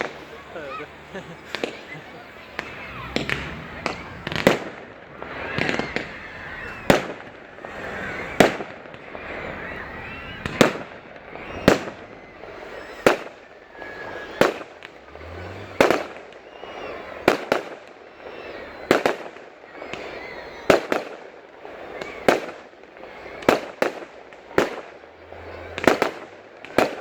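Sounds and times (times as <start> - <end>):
fireworks exploding: 0.0 - 27.0.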